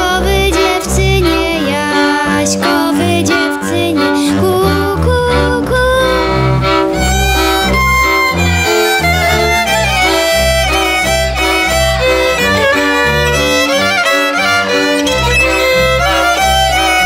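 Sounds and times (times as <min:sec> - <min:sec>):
fiddle melody: 0:00.0 - 0:17.0
live band music: 0:00.0 - 0:17.0
repeating bass line: 0:00.0 - 0:17.0.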